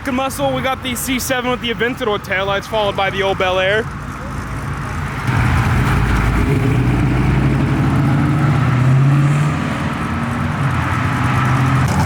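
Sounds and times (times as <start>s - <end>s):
car engines pulling out slowly: 0.0s - 12.0s.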